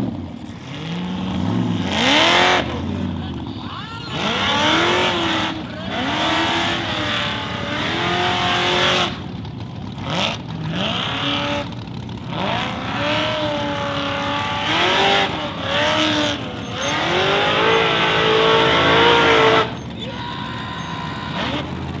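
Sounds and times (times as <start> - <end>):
buggy engine revving: 0.0 - 22.0.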